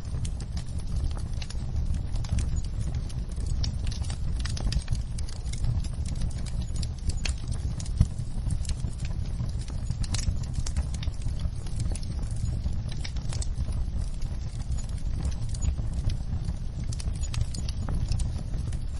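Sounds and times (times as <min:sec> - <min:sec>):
fire low rumble: 0:00.0 - 0:18.9
logs crackling and popping: 0:00.0 - 0:18.9.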